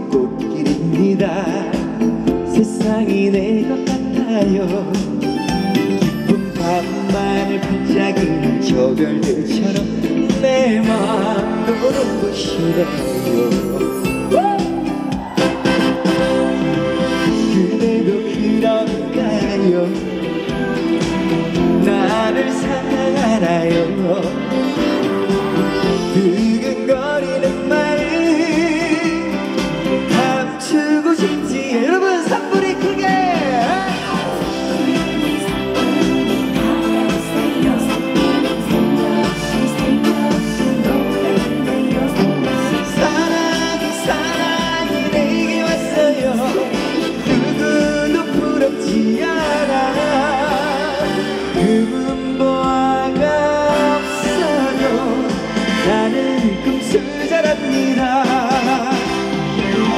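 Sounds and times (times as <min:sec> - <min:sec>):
live band music over sound system: 0:00.0 - 0:59.9.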